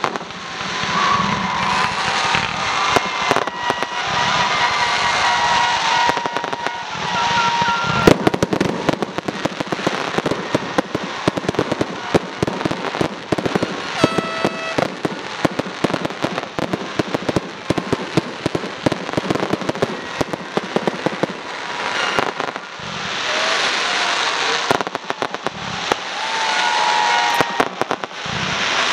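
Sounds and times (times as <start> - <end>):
firework bang: 0.0 - 23.4, 26.7 - 28.9
firework crackling: 0.0 - 28.9
firework fountain hissing and whistling: 0.0 - 28.9.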